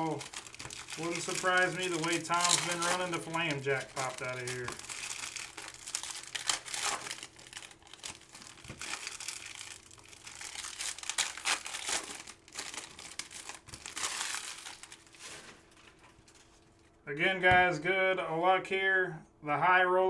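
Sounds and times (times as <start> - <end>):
wrappers tearing open: 0.0 - 16.8
card pack wrappers crinkling: 0.0 - 17.0.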